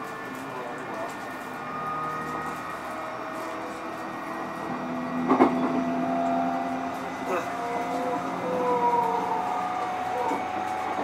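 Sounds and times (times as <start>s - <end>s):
electric train motor whine: 0.0s - 11.0s
train rumbling running noise: 0.0s - 11.0s.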